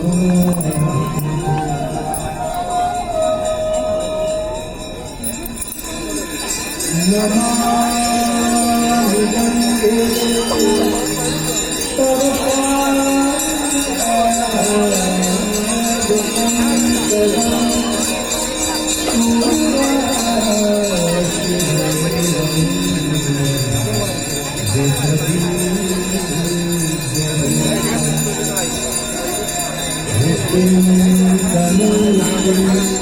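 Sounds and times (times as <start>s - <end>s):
gliding melody: 0.0s - 33.0s
jingling bells: 0.0s - 33.0s.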